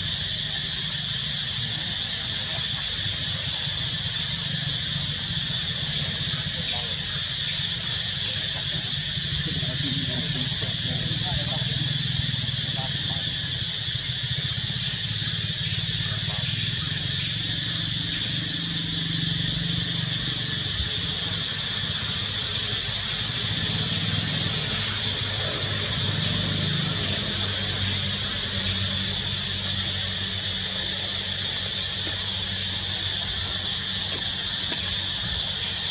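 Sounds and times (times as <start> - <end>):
high-pitched outdoor hiss: 0.0 - 35.9.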